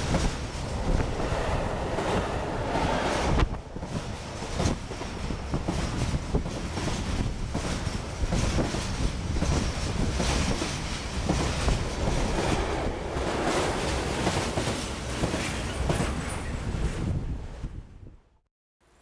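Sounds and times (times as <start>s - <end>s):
freight train rushing past: 0.0s - 17.9s.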